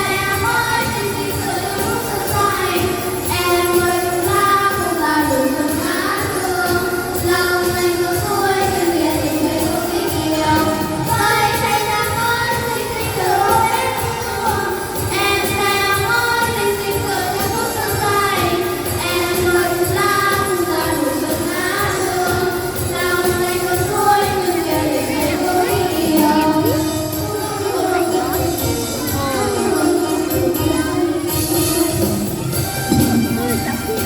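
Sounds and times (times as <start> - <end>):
instrumental backing: 0.0 - 34.0
vocal group singing: 0.0 - 34.0.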